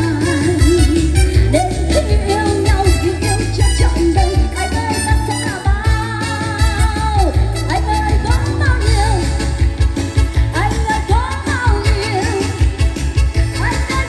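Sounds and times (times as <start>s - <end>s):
band with bass beat: 0.0s - 14.0s
woman singing pop song: 0.0s - 14.0s.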